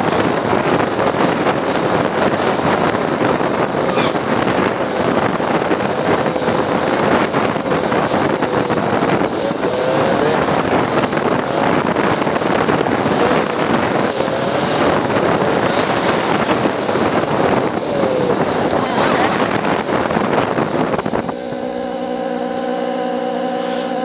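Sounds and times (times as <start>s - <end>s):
motorcycle engine: 0.0s - 24.0s
steady hum: 0.0s - 24.0s
wind rush on microphone: 0.0s - 24.0s.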